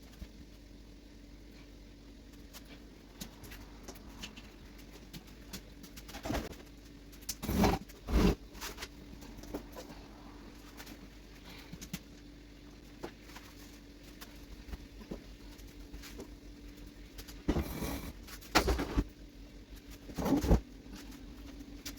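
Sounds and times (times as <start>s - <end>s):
faint steady hum: 0.0s - 21.9s.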